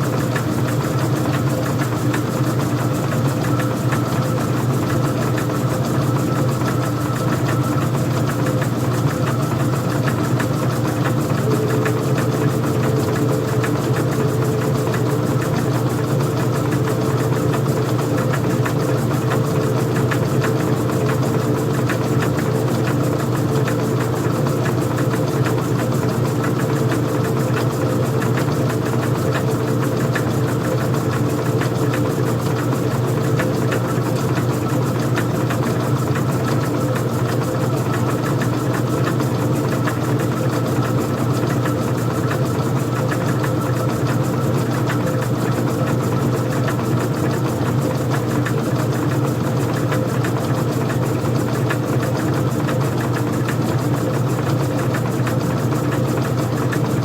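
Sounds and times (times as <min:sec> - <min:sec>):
washing machine hum: 0:00.0 - 0:57.0.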